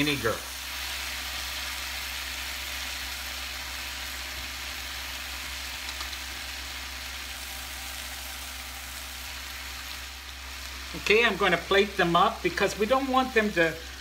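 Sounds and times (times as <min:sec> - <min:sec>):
food sizzling on a griddle: 0:00.0 - 0:14.0
grill fan humming: 0:00.0 - 0:14.0.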